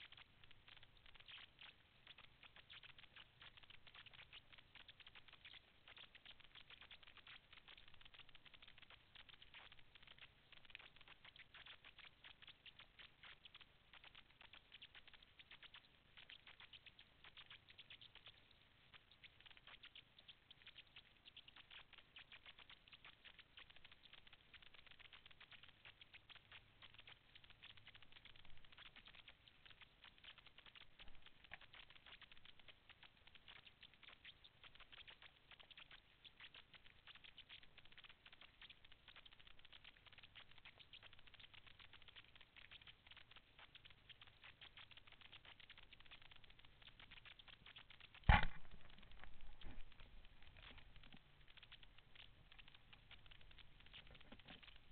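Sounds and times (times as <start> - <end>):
underwater crackling clicks: 0.0 - 54.9.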